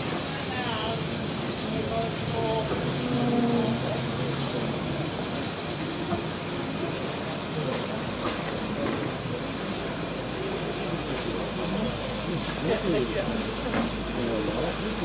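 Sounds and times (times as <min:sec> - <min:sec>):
faint voices: 0:00.0 - 0:15.0
steam locomotive hissing: 0:00.0 - 0:15.0.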